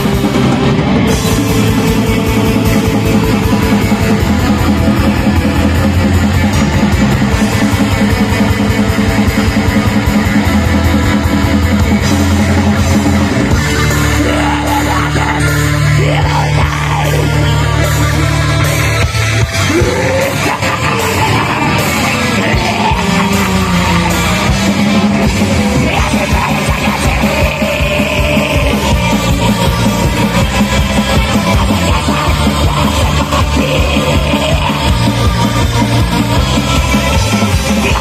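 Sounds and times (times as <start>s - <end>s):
distorted electric guitars: 0.0s - 38.0s
drum kit: 0.0s - 38.0s.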